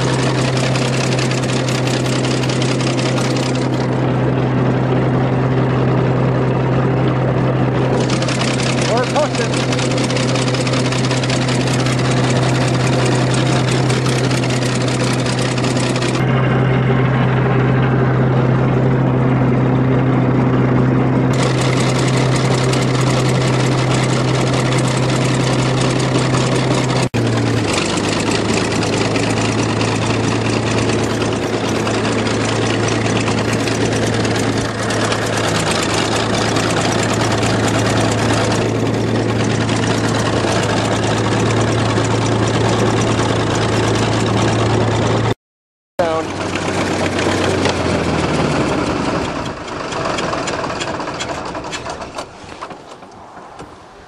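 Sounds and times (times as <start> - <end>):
diesel engine running: 0.0 - 45.4, 46.0 - 53.7.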